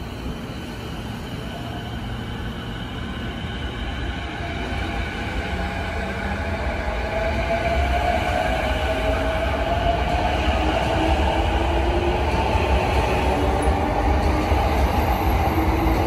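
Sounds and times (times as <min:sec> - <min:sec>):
low rolling rumble of train: 0:00.0 - 0:16.0.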